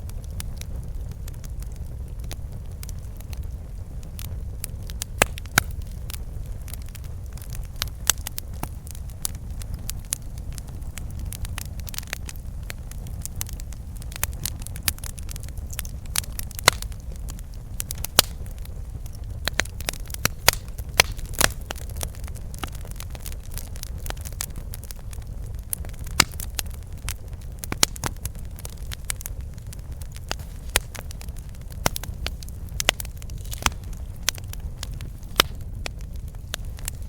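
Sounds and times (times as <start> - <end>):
burning wood crackling: 0.0 - 37.0
flames rumbling: 0.0 - 37.0.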